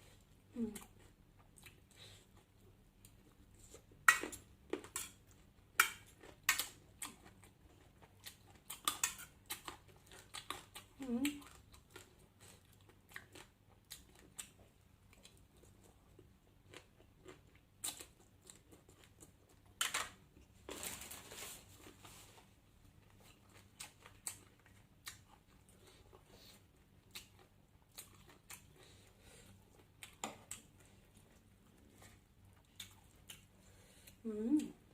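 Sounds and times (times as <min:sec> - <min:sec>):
person chewing: 0:00.0 - 0:20.5, 0:21.8 - 0:34.9.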